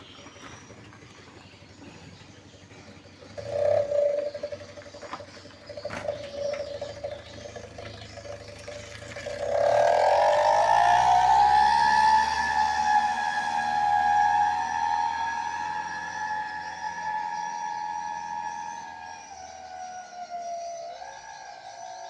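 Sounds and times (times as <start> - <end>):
exhaust whistling tone: 0.0 - 22.0.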